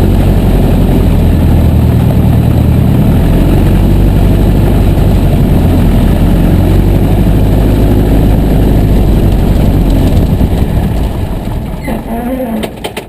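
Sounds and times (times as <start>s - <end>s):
aircraft engine idling: 0.0s - 13.0s.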